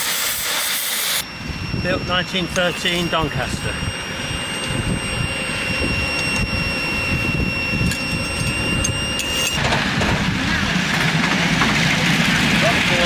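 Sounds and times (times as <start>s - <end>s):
thin high whine: 0.0s - 11.0s
train rumbling: 1.2s - 13.0s.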